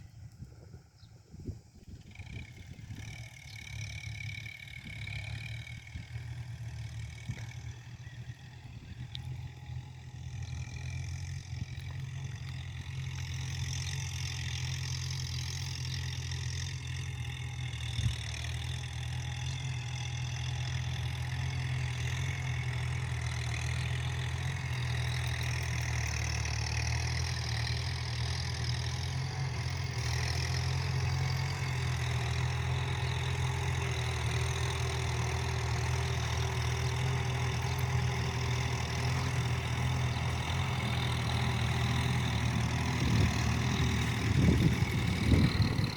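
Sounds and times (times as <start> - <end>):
tractor diesel engine droning: 0.0 - 45.9.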